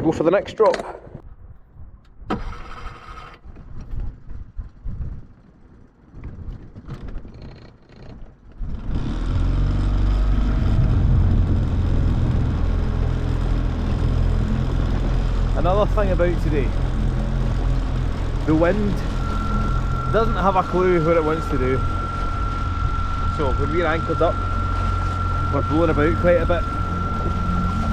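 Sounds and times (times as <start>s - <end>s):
outboard motor starting and idling: 2.2s - 3.7s, 6.9s - 27.9s.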